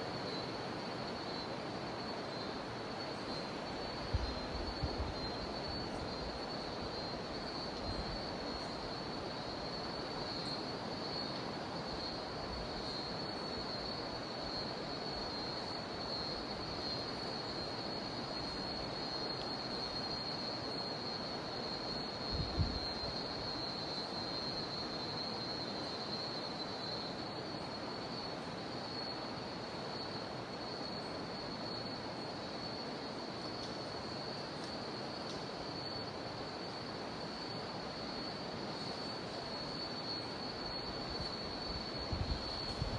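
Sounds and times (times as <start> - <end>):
cicadas droning: 0.0 - 42.9.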